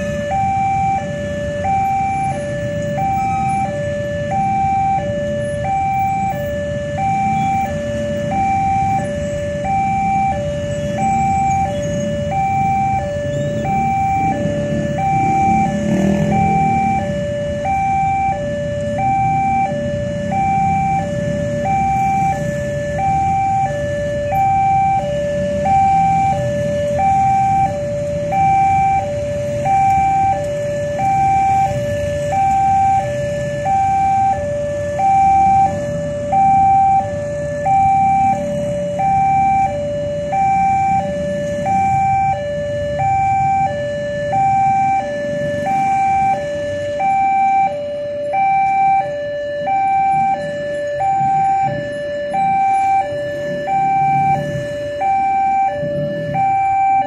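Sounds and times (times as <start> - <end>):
motorcycle engines rumbling: 0.0 - 57.0
two-tone level crossing alarm: 0.0 - 57.0.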